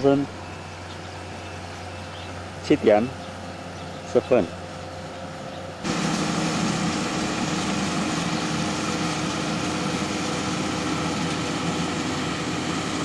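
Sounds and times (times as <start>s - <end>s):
combine harvester engine drone: 0.0s - 13.0s
threshing machinery hum: 0.0s - 13.0s.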